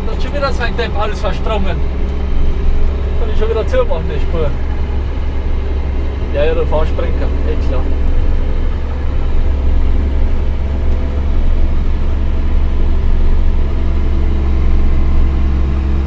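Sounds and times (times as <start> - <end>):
diesel engine deep drone: 0.0 - 16.0.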